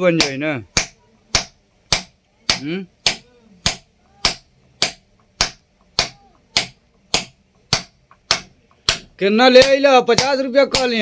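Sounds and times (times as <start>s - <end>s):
hammer striking chisel on stone: 0.1s - 11.0s.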